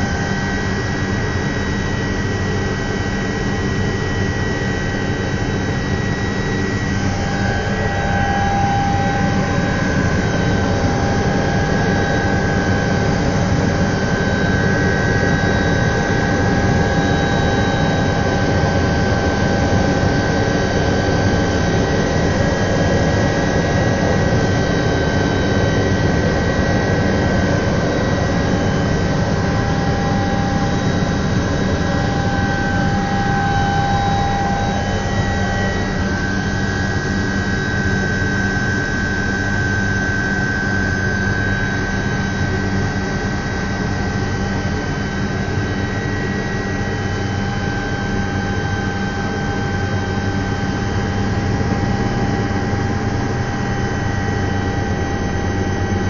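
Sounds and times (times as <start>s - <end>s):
helicopter engine and rotors roaring: 0.0s - 56.0s
turbine and gearbox whine: 0.0s - 56.0s.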